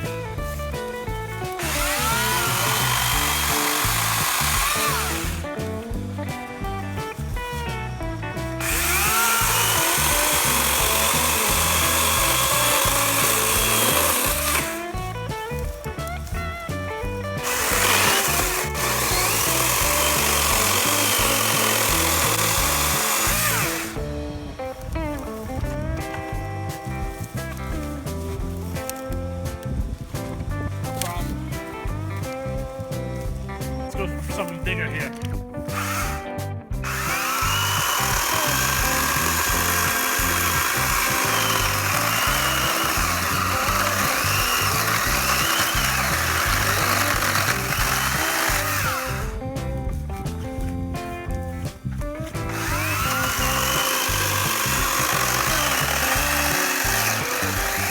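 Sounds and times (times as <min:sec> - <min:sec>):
background music: 0:00.0 - 0:57.9
electric chainsaw cutting wood: 0:00.0 - 0:57.9.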